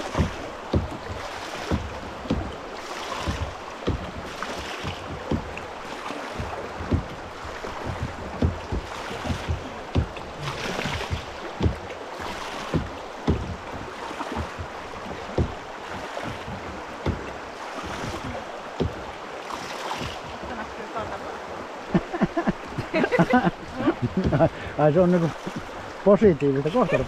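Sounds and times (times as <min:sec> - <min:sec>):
low knocks and thumps: 0:00.0 - 0:27.0
whitewater rushing: 0:00.0 - 0:27.0.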